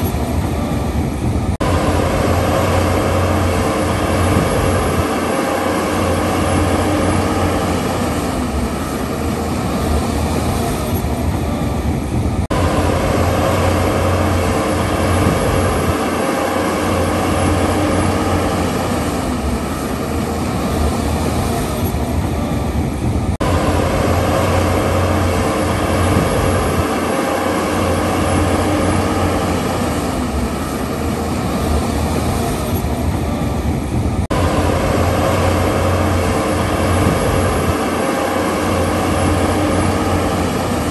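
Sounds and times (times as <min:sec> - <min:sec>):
mechanical engine hum: 0:00.0 - 0:40.9.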